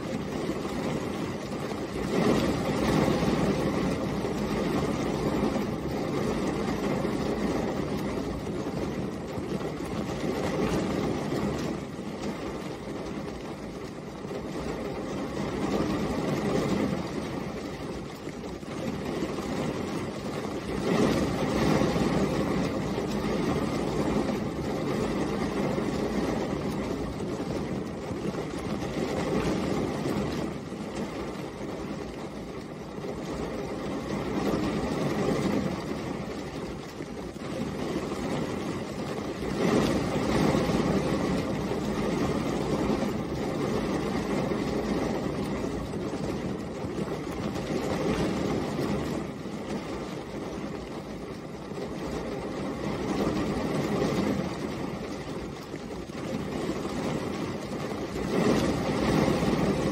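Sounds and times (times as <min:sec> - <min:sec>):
rain falling on a car: 0:00.0 - 0:59.9.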